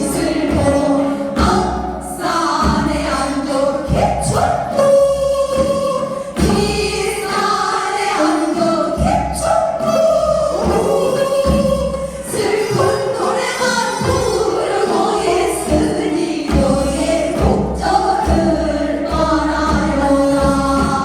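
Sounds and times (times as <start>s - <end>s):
folk singing with accompaniment: 0.0s - 21.0s.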